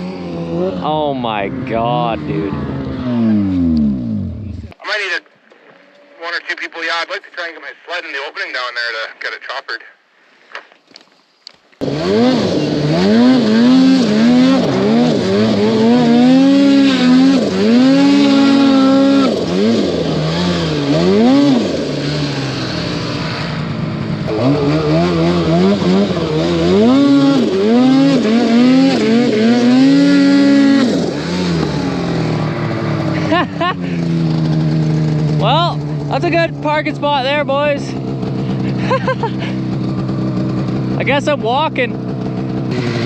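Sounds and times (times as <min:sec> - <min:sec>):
snowmobile engine revving: 0:00.0 - 0:05.1, 0:11.8 - 0:43.0.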